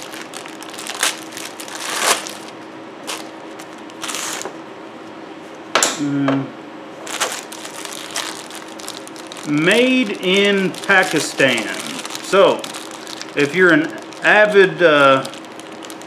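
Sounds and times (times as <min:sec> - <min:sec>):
plastic packaging crinkling: 0:00.0 - 0:04.6, 0:07.0 - 0:16.0.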